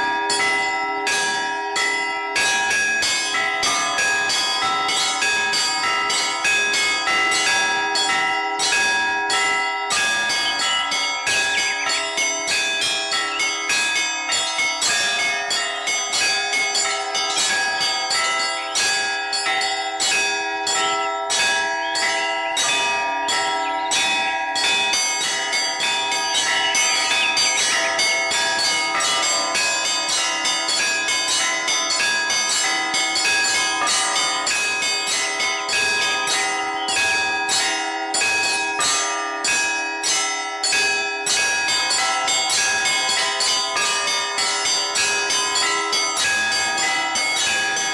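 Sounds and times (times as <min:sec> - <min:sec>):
church bells pealing: 0:00.0 - 0:47.9.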